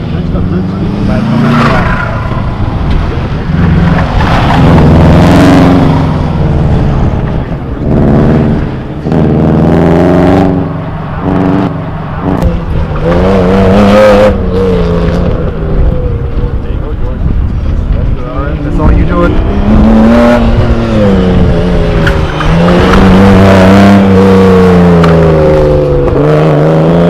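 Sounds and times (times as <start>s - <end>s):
car engine accelerating and shifting: 0.0s - 27.0s.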